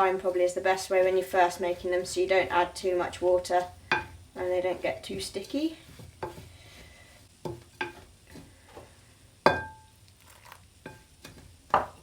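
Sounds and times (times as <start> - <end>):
spoon stirring sticky mixture: 0.0 - 12.0.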